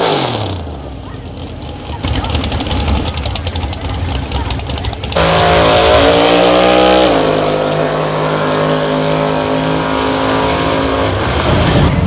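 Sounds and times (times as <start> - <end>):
drag car engine revving high: 0.0 - 12.0.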